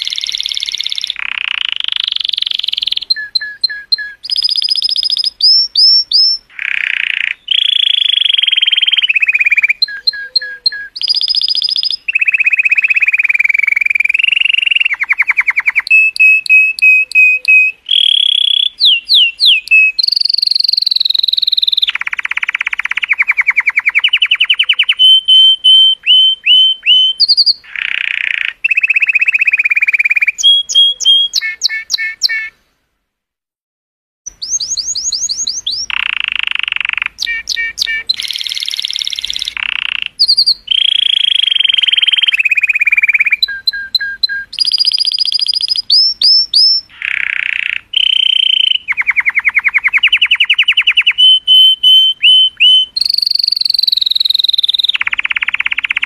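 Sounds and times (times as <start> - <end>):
canary singing trills: 0.0 - 32.6, 34.3 - 56.0.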